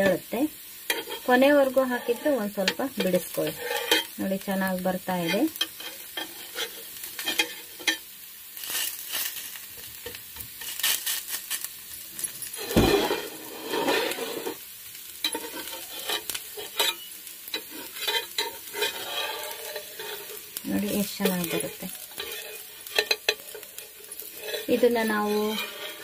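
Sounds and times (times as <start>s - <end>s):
dosa sizzling on a pan: 0.0s - 26.0s
spatula scraping a pan: 0.8s - 4.2s, 5.2s - 9.4s, 12.2s - 26.0s.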